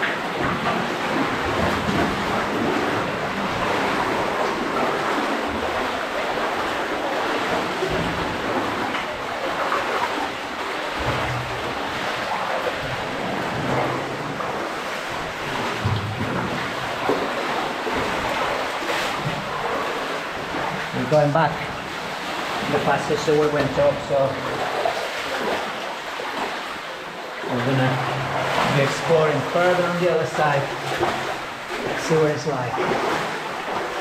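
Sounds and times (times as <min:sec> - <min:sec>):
water sloshing and splashing: 0:00.0 - 0:34.0.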